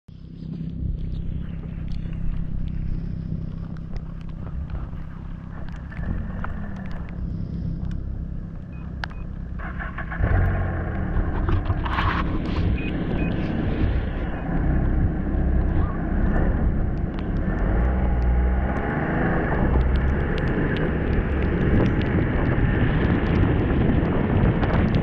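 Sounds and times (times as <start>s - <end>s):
snowmobile engine and track running: 0.1s - 25.0s.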